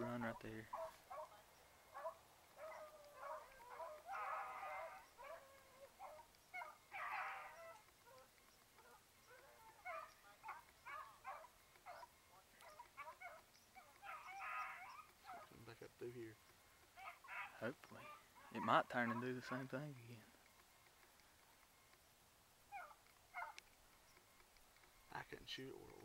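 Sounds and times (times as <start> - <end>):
hounds baying faintly: 0.0 - 22.1, 22.7 - 26.0.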